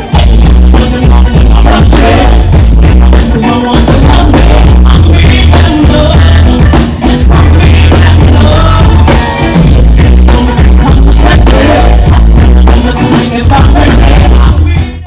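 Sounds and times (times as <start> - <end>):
drum kit: 0.0 - 15.0
live band music: 0.0 - 15.0
person singing: 0.0 - 15.0.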